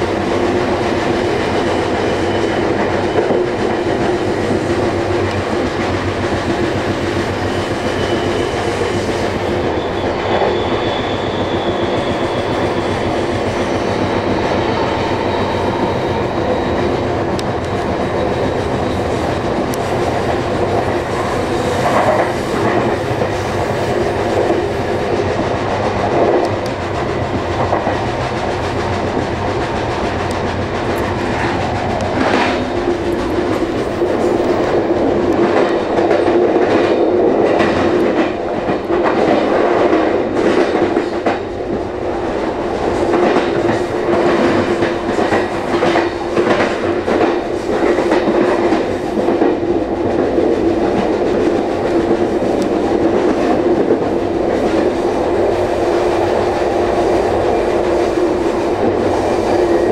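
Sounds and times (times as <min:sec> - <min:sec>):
train hum: 0:00.0 - 0:59.9
train wheels clacking over rail joints: 0:00.0 - 0:59.9.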